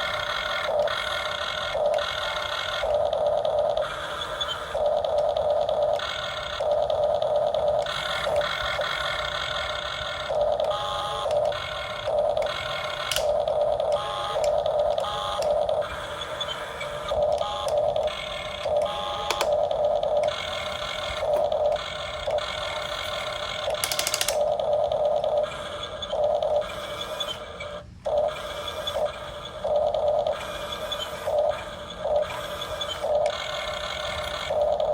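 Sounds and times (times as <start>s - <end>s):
electric motors whining: 0.0s - 34.9s.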